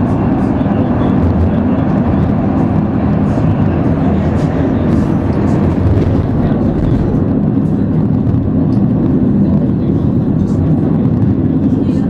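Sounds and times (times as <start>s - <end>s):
funicular railway car rumbling: 0.0s - 12.0s.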